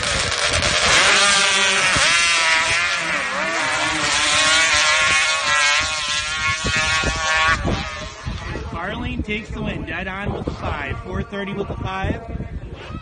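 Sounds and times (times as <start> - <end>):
motorcycles racing at full throttle: 0.0 - 13.0.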